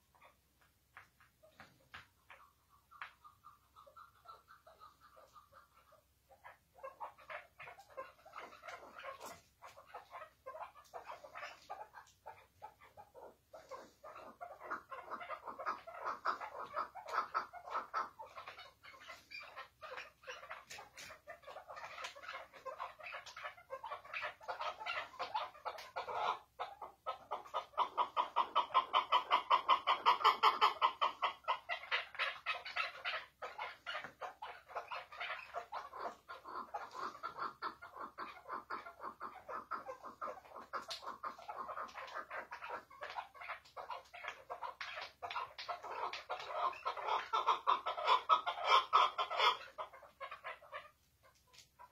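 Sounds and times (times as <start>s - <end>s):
partridge chuckling call: 2.3s - 51.0s.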